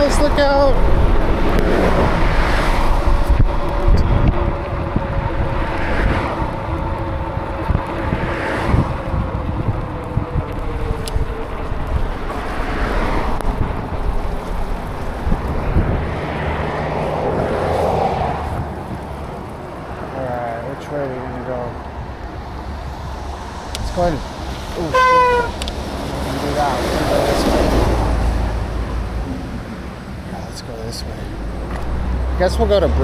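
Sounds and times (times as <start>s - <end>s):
tyres hissing on wet pavement: 0.0s - 33.0s
wind buffeting microphone: 0.0s - 33.0s.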